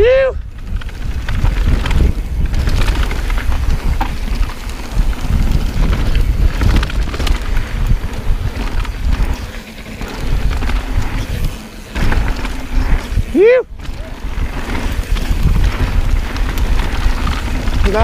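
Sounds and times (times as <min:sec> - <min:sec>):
bike tyre rumble: 0:00.0 - 0:18.0
wind buffeting microphone: 0:00.0 - 0:18.0
bike knocks and rattles: 0:00.5 - 0:18.0.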